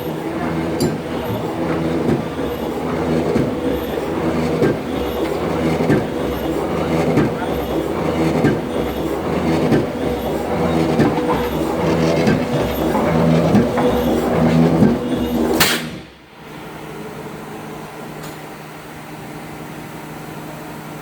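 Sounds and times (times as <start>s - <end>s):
press machine humming: 0.0s - 17.5s.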